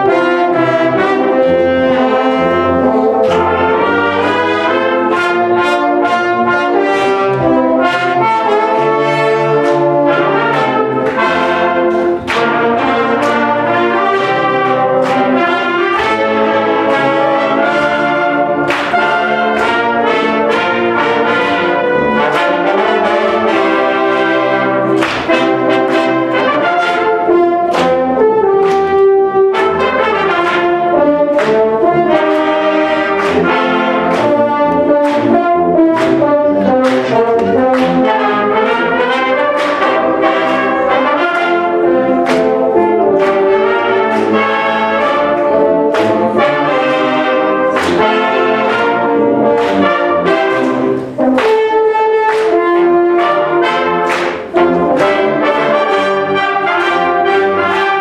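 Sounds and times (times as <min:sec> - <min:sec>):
brass band playing: 0:00.0 - 0:58.0.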